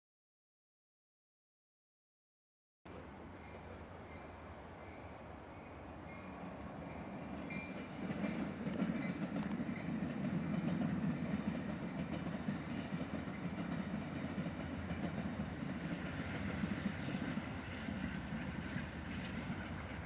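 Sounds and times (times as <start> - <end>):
freight train rumbling: 2.9 - 20.0.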